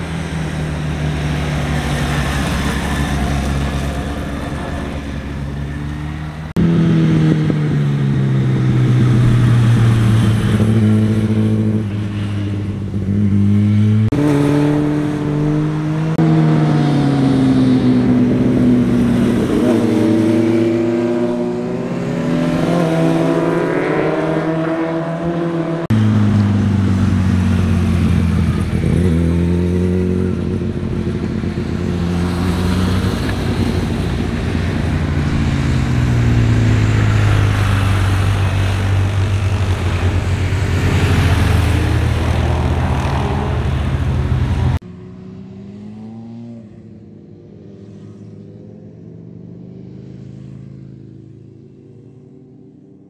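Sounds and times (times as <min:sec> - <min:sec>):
motorcycle engines passing: 0:00.0 - 0:53.0.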